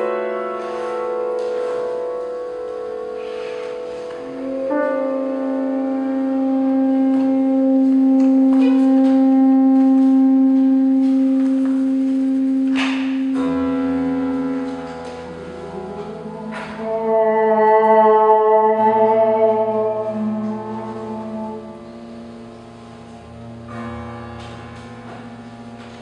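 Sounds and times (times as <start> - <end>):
tenor saxophone long note: 0.0 - 23.8
sparse grand piano: 0.0 - 26.0.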